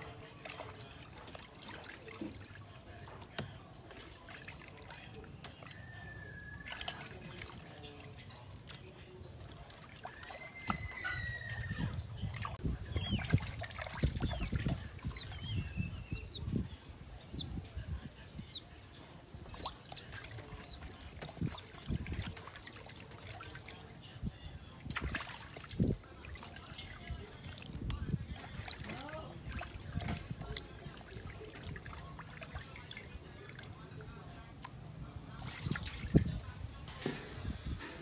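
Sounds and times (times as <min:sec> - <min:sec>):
water sloshing in steel basin: 0:00.0 - 0:16.8, 0:18.8 - 0:38.0
birds chirping: 0:00.0 - 0:38.0.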